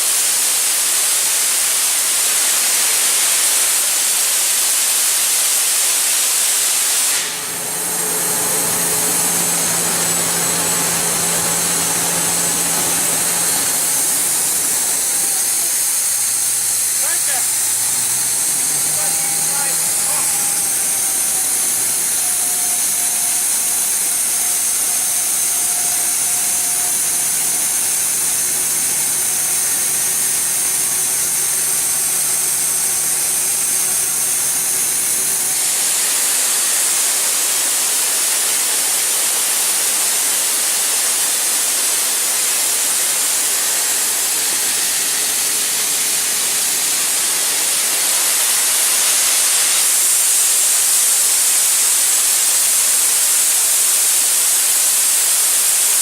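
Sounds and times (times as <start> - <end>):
air compressor running: 0.0 - 56.0
loud steady hiss: 0.0 - 56.0.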